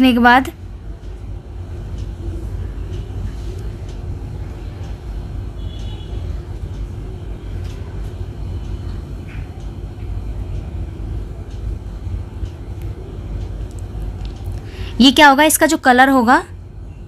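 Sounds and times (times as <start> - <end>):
faint constant hum: 0.0 - 17.0
low background rumble: 0.0 - 17.0.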